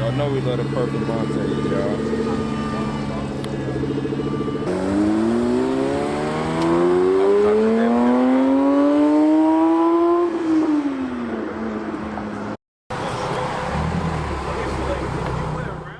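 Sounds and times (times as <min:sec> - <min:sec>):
car engine accelerating: 0:00.0 - 0:15.9.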